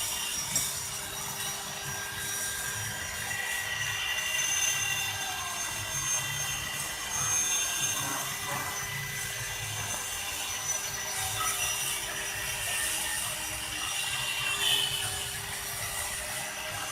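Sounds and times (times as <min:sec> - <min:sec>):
stone-carving machine whine and grinding: 0:00.0 - 0:16.9.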